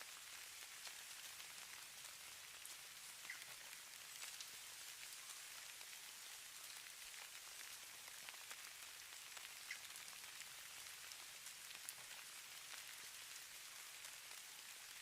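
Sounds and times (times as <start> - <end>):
snow ticking on surfaces: 0.0 - 15.0.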